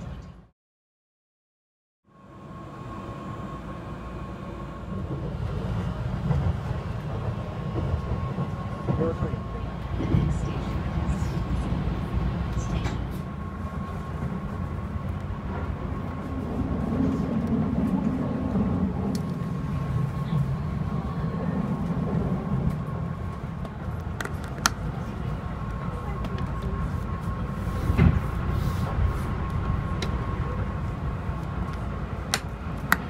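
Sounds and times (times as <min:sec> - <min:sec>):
train cabin rumble: 0:03.4 - 0:33.0.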